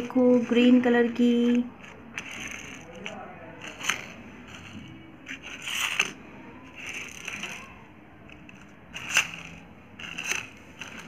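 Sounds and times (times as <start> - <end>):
toy car rolling on concrete: 0.0 - 11.0
plastic clicks: 1.4 - 11.0.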